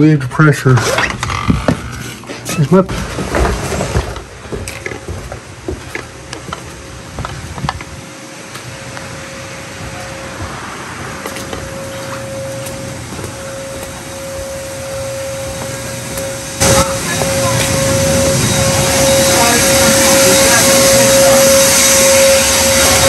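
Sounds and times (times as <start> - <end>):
machine humming with thin whine: 3.1 - 23.0.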